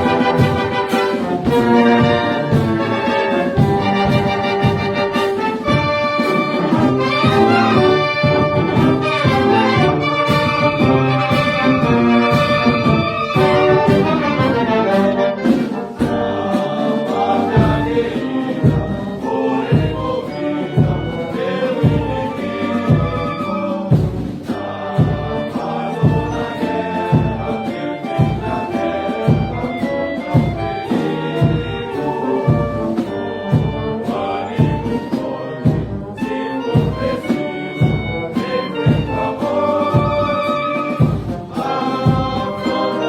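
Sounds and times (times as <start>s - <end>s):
orchestral music with brass: 0.0s - 43.0s.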